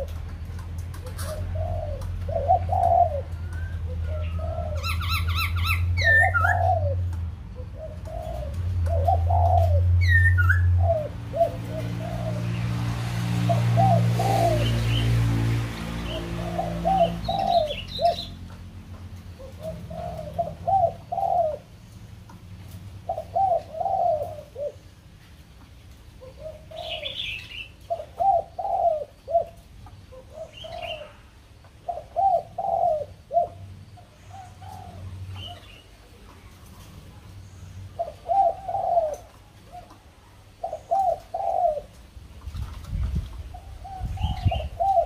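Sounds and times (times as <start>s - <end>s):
birds calling low notes: 0.0s - 45.0s.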